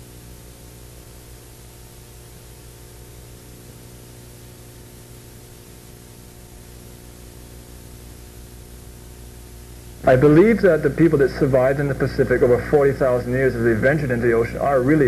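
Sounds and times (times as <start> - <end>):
low electrical hum: 0.0 - 15.0
steady tape hiss: 0.0 - 15.0.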